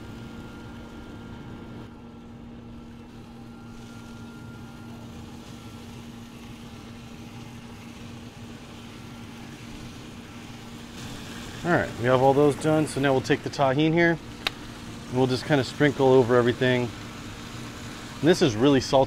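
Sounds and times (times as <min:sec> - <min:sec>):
pellet smoker fan motor humming: 0:00.0 - 0:19.0.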